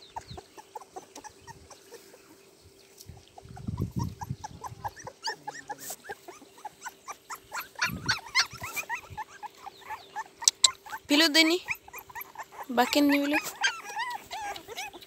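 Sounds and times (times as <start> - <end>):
puppies squeaking and whimpering: 0.0 - 2.4, 3.2 - 15.0.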